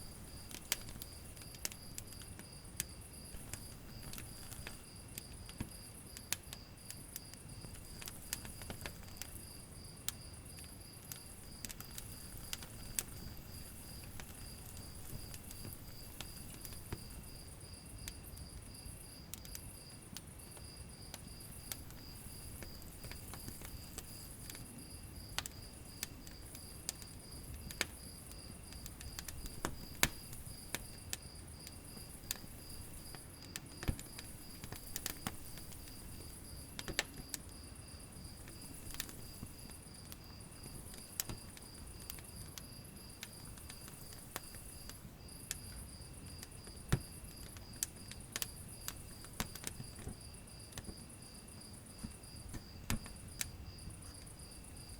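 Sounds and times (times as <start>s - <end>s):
sharp pops and snaps: 0.0s - 54.9s
wood fire crackling: 0.0s - 54.9s.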